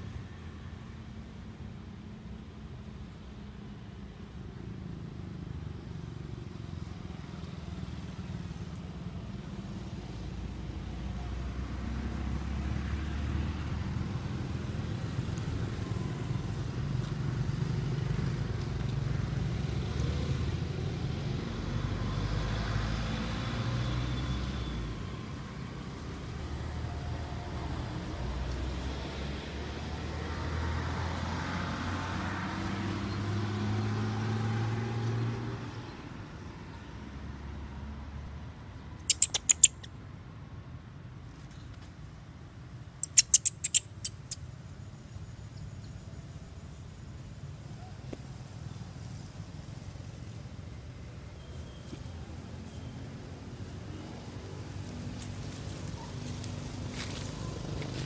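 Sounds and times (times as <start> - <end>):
vehicle engines humming: 0.0 - 58.0.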